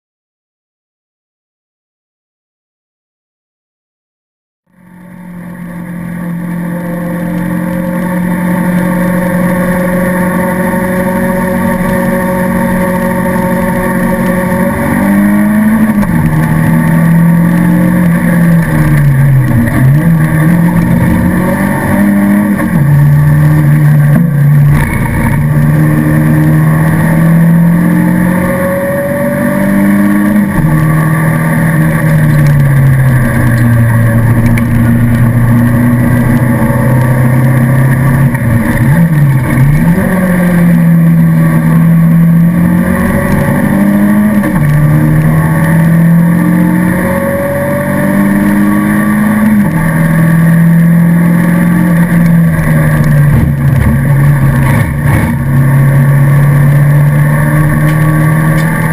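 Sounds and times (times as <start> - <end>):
race car engine from inside cabin: 4.7 - 58.9.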